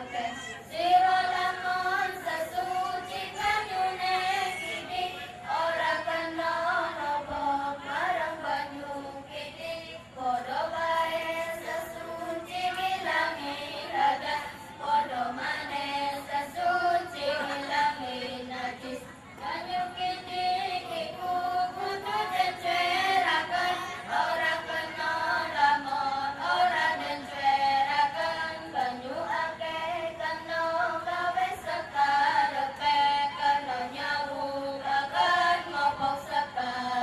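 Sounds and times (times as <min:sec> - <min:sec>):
children singing in unison: 0:00.0 - 0:37.0.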